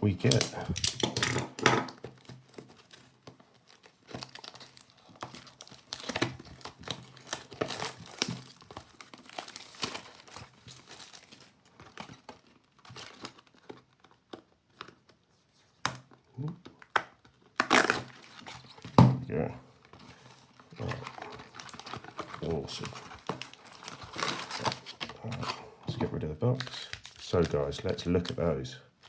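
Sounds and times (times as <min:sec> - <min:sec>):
plastic wrapping crinkling and tearing: 0:00.2 - 0:15.3, 0:15.9 - 0:19.0, 0:19.7 - 0:29.0.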